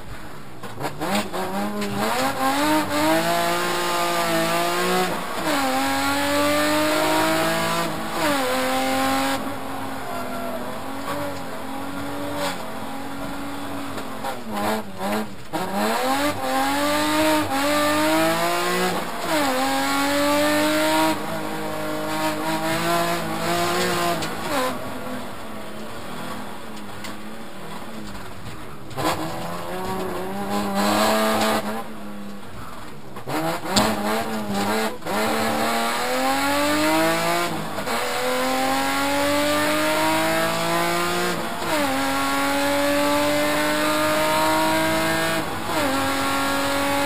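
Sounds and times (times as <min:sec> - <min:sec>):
car engine revving through gears: 0:00.6 - 0:47.0.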